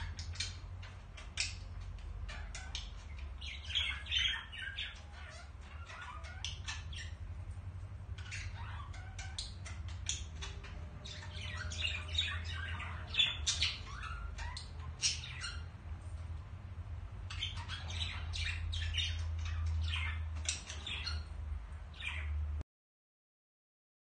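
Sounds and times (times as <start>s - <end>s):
budgerigars chirping and squawking: 0.0s - 22.5s.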